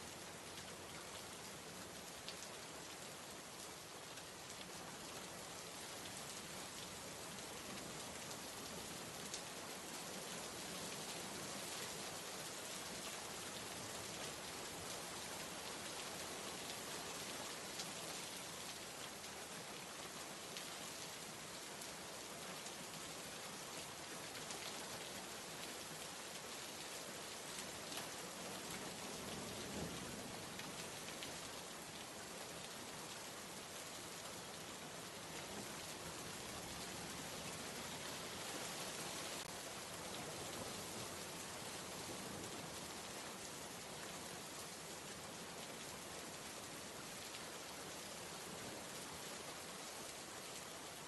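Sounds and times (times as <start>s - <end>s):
rainfall hiss: 0.0s - 51.0s.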